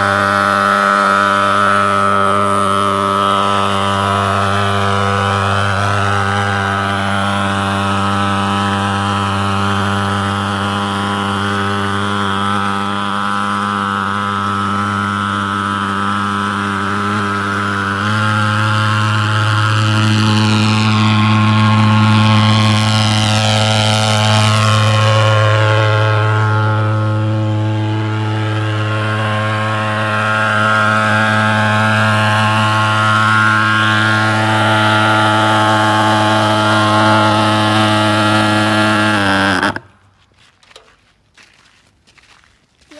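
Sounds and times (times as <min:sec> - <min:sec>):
thermal fogger droning: 0:00.0 - 0:40.2.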